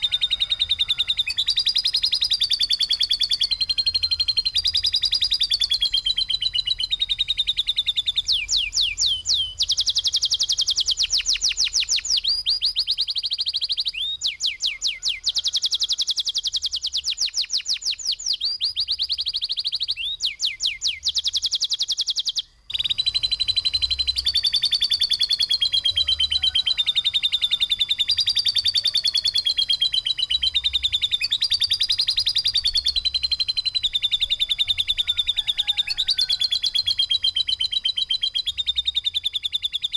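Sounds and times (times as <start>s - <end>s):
songbird rapid chirping: 0.0s - 39.9s.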